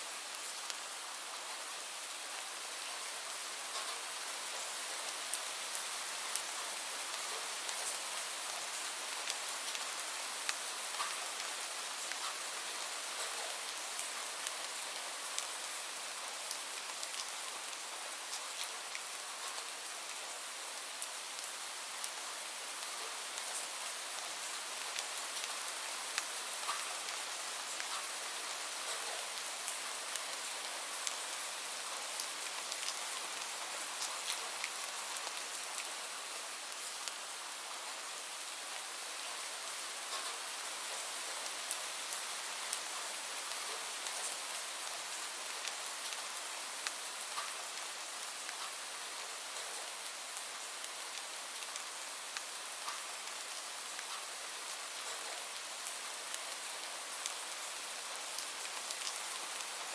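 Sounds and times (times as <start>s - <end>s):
light rain hiss: 0.0s - 59.9s
raindrops ticking on a surface: 0.2s - 1.3s, 3.6s - 59.9s.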